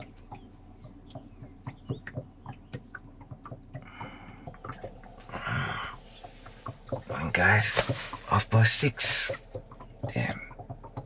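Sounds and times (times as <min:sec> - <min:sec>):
birds calling faintly: 0:00.0 - 0:11.0
small irregular clicks and knocks: 0:00.0 - 0:11.0.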